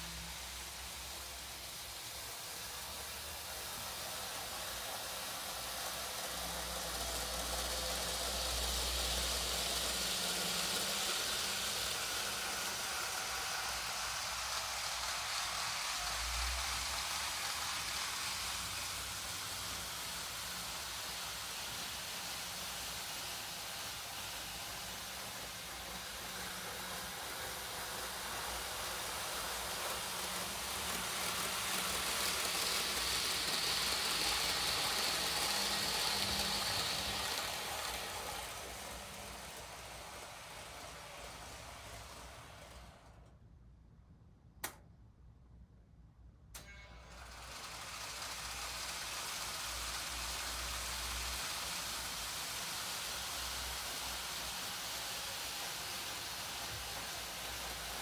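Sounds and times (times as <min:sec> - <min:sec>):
model trains whirring on track: 0:00.0 - 0:43.4, 0:46.6 - 0:58.0.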